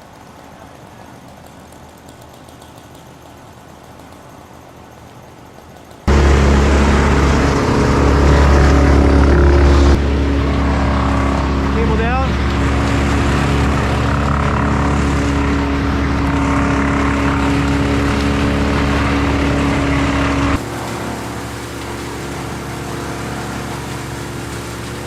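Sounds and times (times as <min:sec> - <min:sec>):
large machinery engine running: 0:00.0 - 0:25.0.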